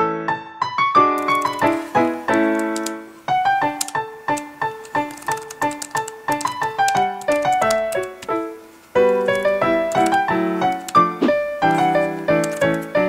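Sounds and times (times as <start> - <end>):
keyboard tune: 1.1 - 13.0.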